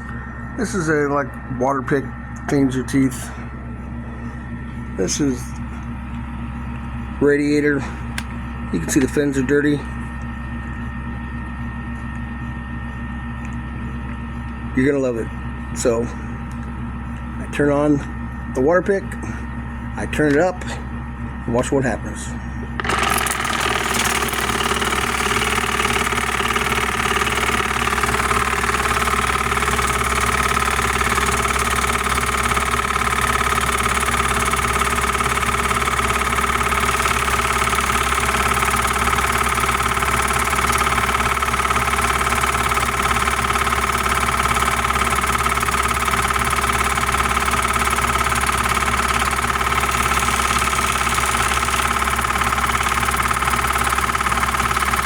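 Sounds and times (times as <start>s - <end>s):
oral irrigator pump buzzing: 0.0s - 55.0s.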